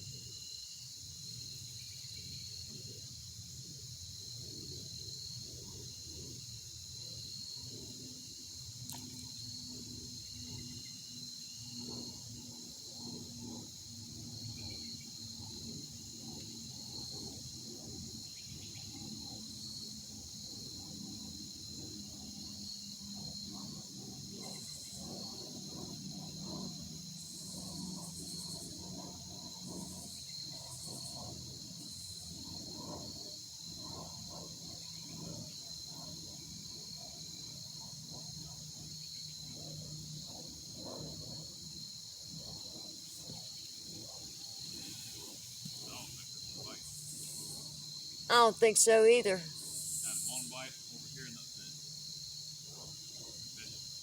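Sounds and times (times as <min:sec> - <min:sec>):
insect chorus trilling: 0:00.0 - 0:54.0.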